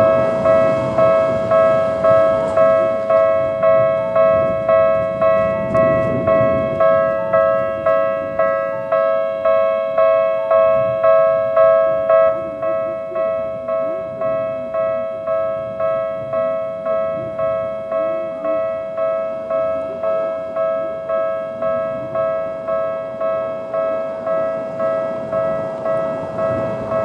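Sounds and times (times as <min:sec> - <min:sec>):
level crossing warning bell: 0:00.0 - 0:27.0.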